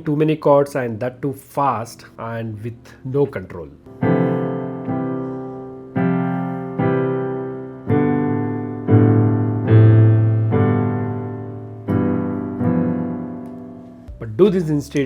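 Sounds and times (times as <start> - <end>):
piano chords ringing: 0.0 - 15.0
heavy piano bass notes: 2.1 - 15.0.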